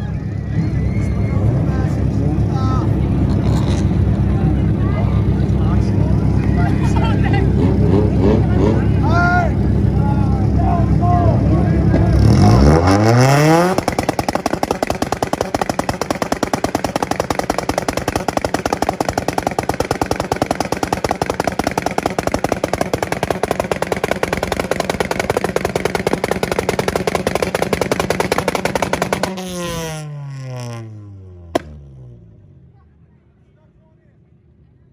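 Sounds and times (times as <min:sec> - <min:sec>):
car engine on rev limiter: 0:00.0 - 0:32.7.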